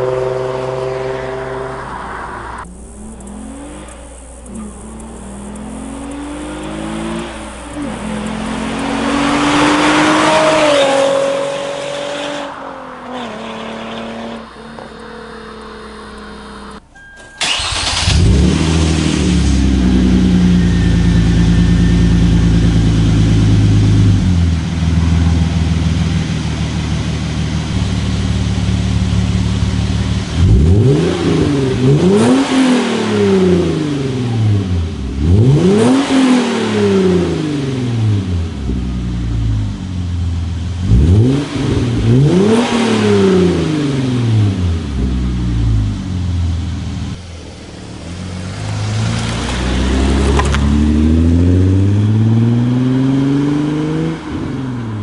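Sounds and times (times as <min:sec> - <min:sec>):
car engine idling: 0:00.0 - 0:10.3, 0:14.2 - 0:32.4, 0:36.7 - 0:52.3
car engine revving: 0:00.0 - 0:16.8, 0:17.4 - 0:55.0
car engine starting: 0:00.0 - 0:55.0.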